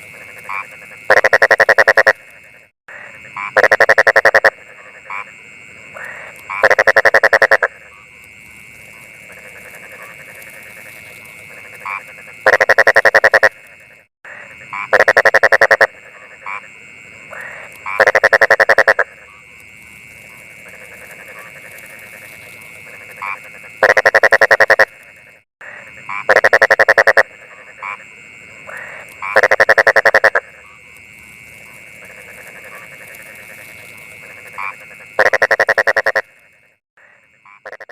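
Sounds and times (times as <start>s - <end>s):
frog croaking: 0.0s - 37.9s.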